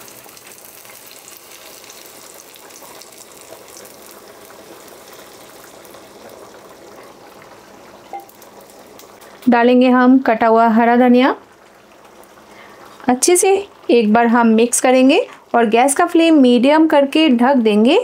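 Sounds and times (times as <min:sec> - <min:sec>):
food boiling and bubbling: 0:00.0 - 0:18.0.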